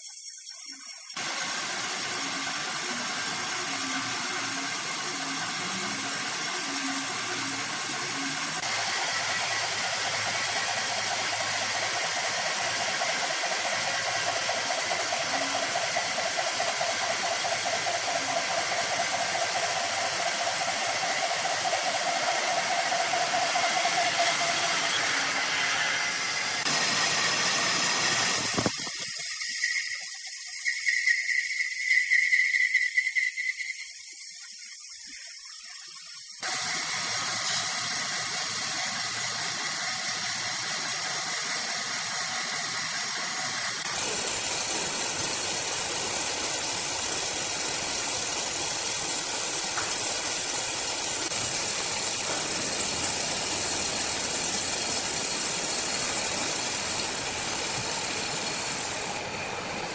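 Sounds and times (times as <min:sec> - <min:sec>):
harsh saw cutting timber: 0:01.2 - 0:33.7, 0:36.4 - 0:59.9.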